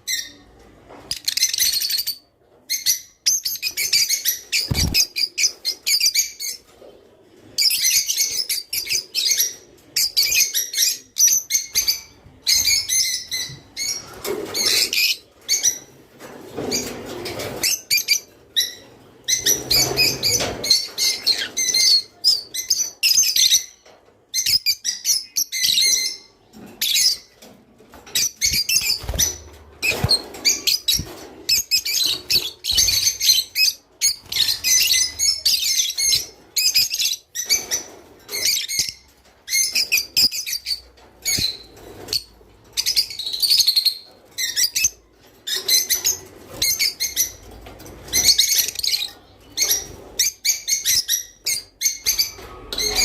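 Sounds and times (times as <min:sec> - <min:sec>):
cage birds chirping and singing: 0:00.0 - 0:53.0.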